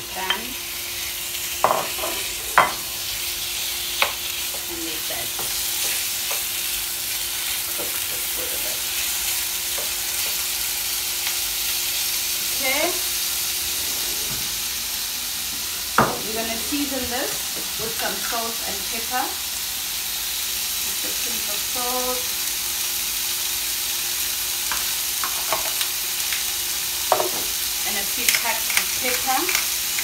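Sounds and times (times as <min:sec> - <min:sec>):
chicken sizzling in a frying pan: 0:00.0 - 0:30.0.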